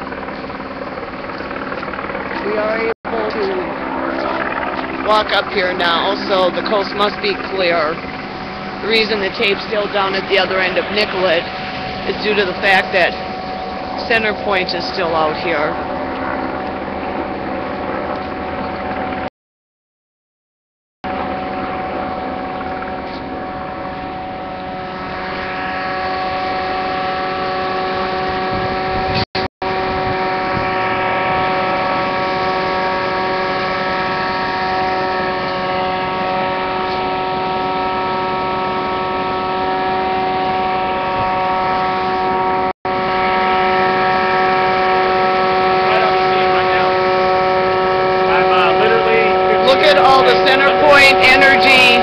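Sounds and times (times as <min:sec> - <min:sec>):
steady mechanical drone: 0:00.0 - 0:19.3, 0:21.0 - 0:52.0.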